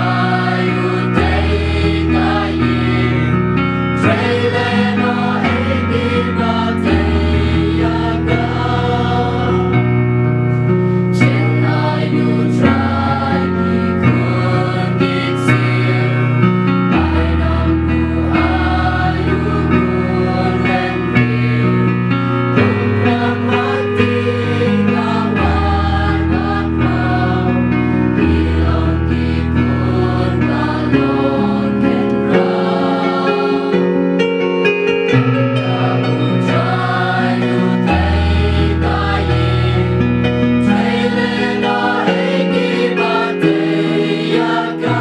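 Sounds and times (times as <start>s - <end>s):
choir singing gospel song: 0.0s - 34.4s, 35.0s - 45.0s.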